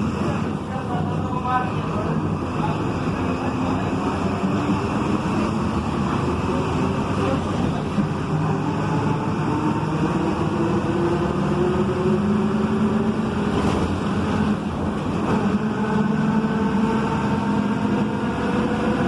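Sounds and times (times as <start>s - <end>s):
bus transmission whine: 0.0s - 19.0s.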